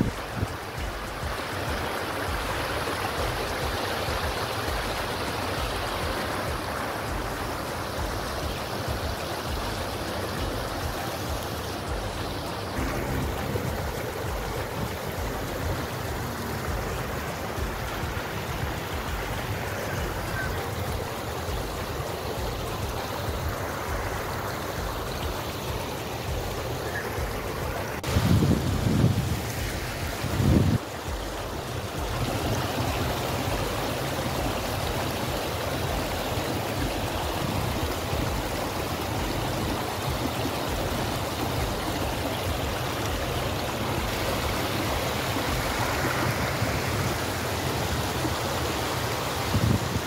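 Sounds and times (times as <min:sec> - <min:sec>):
stream rushing over stones: 0:00.0 - 0:50.0.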